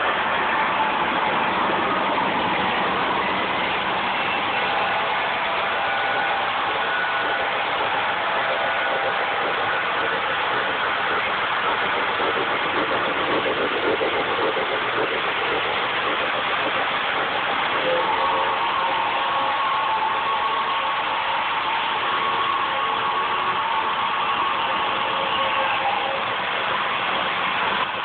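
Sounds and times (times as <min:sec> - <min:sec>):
diesel engine sound effect: 0:00.0 - 0:28.0
model train wheels rumbling: 0:00.0 - 0:28.0
steady hum: 0:00.0 - 0:28.0.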